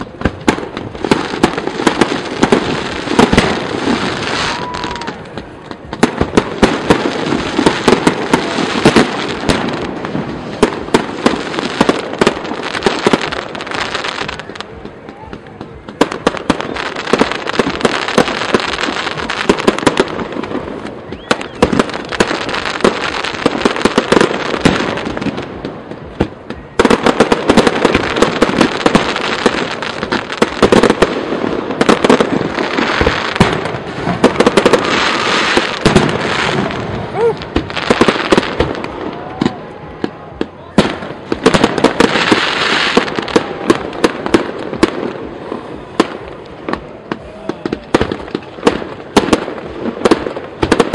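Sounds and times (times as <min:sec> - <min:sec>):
firework bangs: 0:00.0 - 0:50.9.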